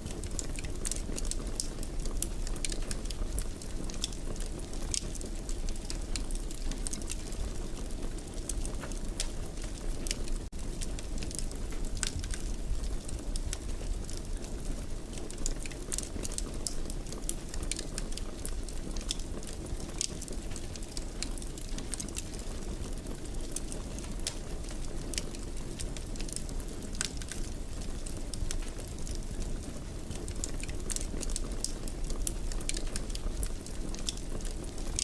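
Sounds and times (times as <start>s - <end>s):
fireplace fire crackling: 0.0s - 35.0s
low rumble of burning: 0.0s - 35.0s.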